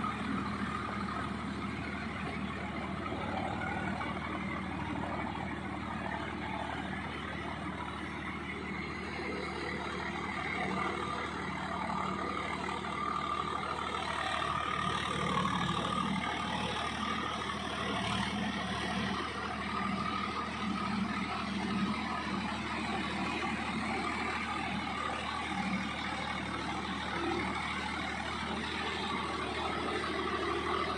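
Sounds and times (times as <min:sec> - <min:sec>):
tractor diesel engine under load: 0:00.0 - 0:30.9.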